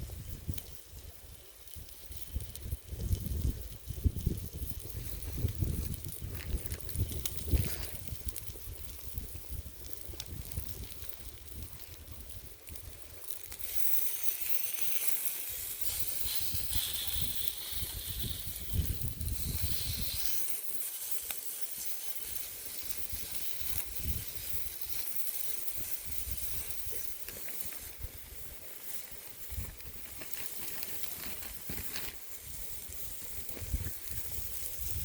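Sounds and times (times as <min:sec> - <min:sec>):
wind rumbling on microphone: 0:00.0 - 0:13.8, 0:15.4 - 0:20.6, 0:22.2 - 0:25.0, 0:25.6 - 0:35.0
food sizzling over fire: 0:00.0 - 0:35.0.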